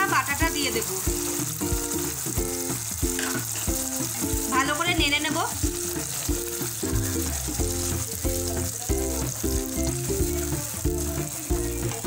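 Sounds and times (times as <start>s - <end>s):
gravy sizzling in a pan: 0.0s - 12.0s
spatula stirring: 0.0s - 12.0s.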